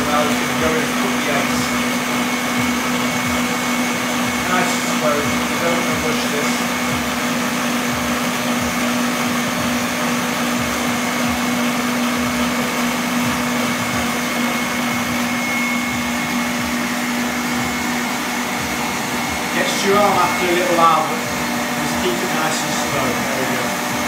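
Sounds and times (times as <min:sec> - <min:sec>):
stand mixer whisking: 0:00.0 - 0:24.0.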